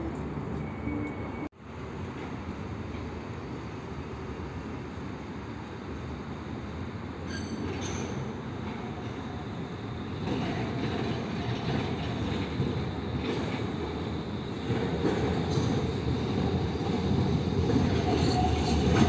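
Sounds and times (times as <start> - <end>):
tram rumbling on rails: 0.0 - 19.0.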